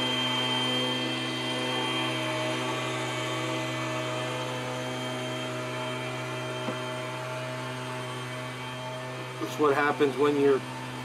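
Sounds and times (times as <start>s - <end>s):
leaf blowers running: 0.0s - 11.0s.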